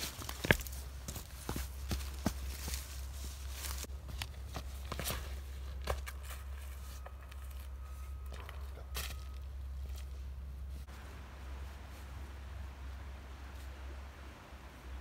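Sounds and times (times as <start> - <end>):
footsteps on leaves and gravel: 0.0 - 12.3.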